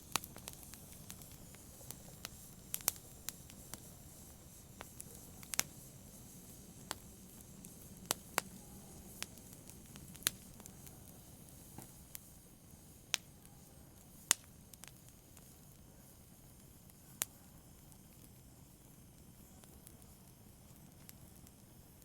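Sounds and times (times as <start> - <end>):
faint rustle of burning: 0.0 - 22.0
wood fire crackling and popping: 0.0 - 22.0.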